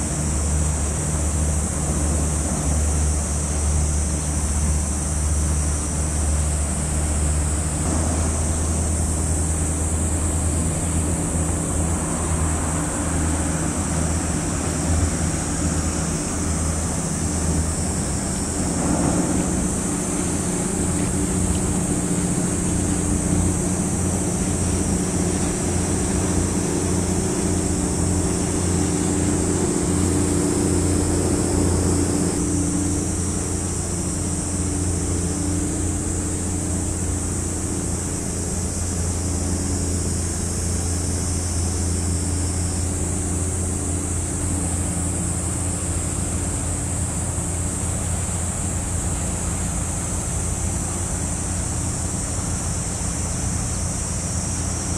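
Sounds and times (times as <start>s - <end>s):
water noise: 0.0s - 44.8s
high-pitched hiss: 0.0s - 54.9s
ship diesel engine drone: 0.0s - 54.9s
wind: 0.0s - 54.9s.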